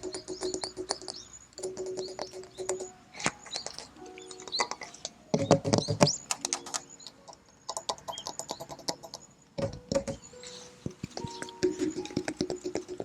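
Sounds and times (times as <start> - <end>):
fingers tapping on metal: 0.0 - 13.0.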